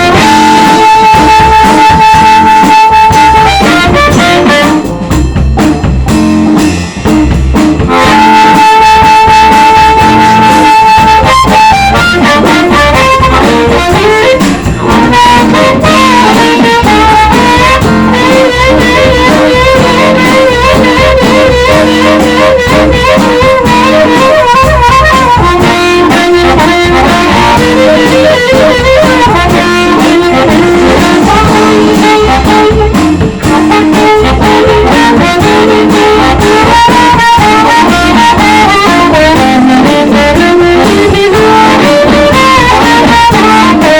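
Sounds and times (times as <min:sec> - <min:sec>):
blues harmonica solo: 0:00.0 - 0:43.9
electric blues band playing: 0:00.0 - 0:43.9.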